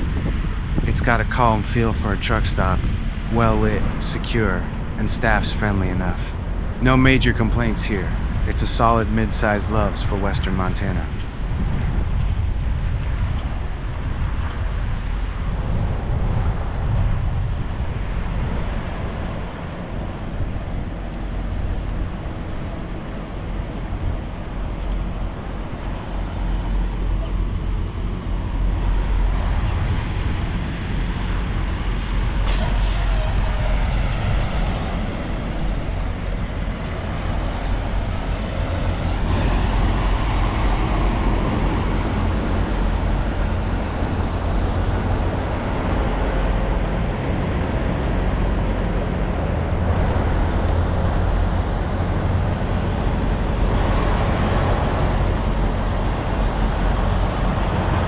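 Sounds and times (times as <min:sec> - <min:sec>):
traffic noise: 0:00.0 - 0:12.0, 0:20.8 - 0:58.0.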